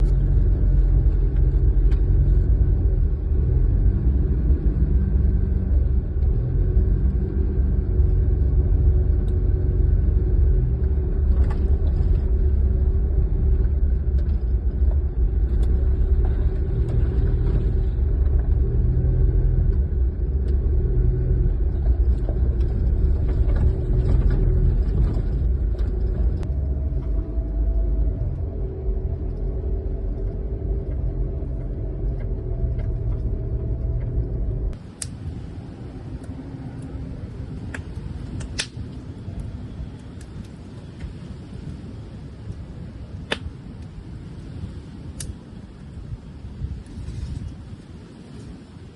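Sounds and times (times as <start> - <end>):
car engine and road rumble: 0.0 - 48.9.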